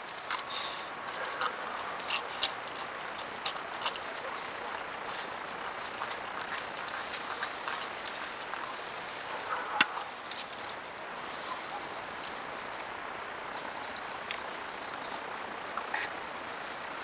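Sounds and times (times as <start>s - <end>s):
faint ticks: 0.0s - 17.0s
steady microphone hiss: 0.0s - 17.0s.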